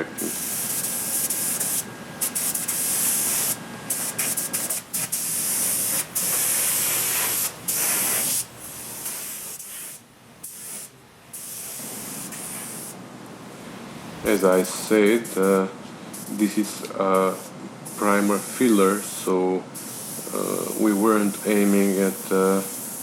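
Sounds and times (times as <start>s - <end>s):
spray gun hissing: 0.0s - 13.0s, 17.2s - 23.0s.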